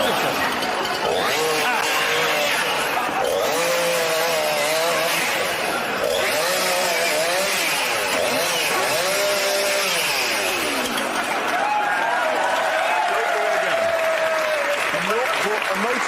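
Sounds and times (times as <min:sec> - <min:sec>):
chainsaw revving and cutting metal: 0:00.0 - 0:12.9.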